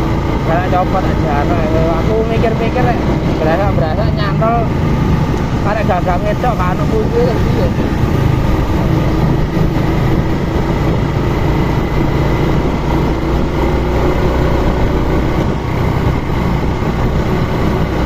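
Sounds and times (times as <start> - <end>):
motorbike engine hum: 0.0 - 18.0
rushing road noise: 0.0 - 18.0.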